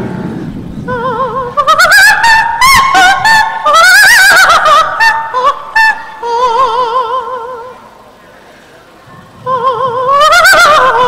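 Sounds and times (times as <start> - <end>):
operatic soprano singing: 0.7 - 8.2, 9.0 - 11.0.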